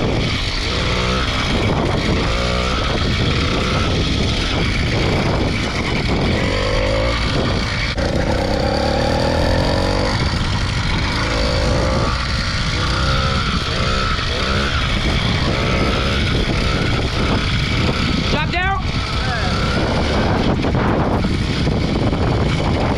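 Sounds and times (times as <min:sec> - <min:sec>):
two-stroke engine revving: 0:00.0 - 0:22.9
wind buffeting microphone: 0:00.0 - 0:22.9.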